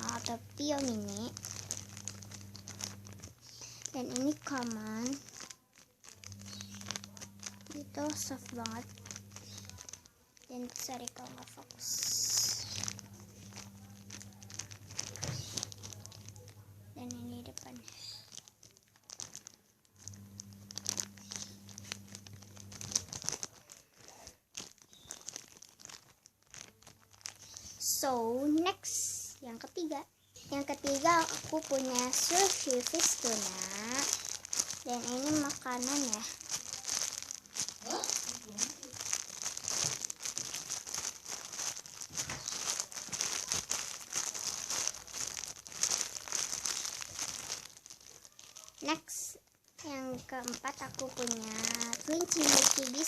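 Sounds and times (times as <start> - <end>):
low steady hum: 0.0 - 23.8, 25.4 - 48.2
plastic crinkling: 0.0 - 53.0.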